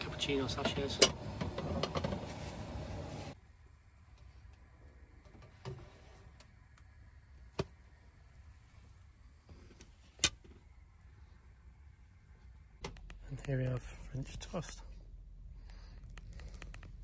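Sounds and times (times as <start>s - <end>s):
low steady background hum: 0.0s - 17.0s.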